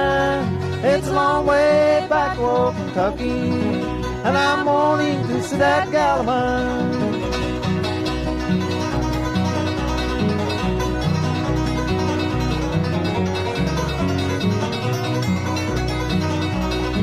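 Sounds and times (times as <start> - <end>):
acoustic guitar picking: 0.0 - 17.0
banjo picking: 0.0 - 17.0
bass line: 0.0 - 17.0.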